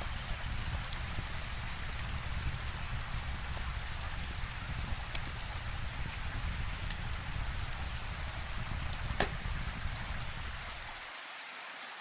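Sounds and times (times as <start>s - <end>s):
wood fire crackling: 0.0s - 11.0s
steady rain falling: 0.0s - 12.0s.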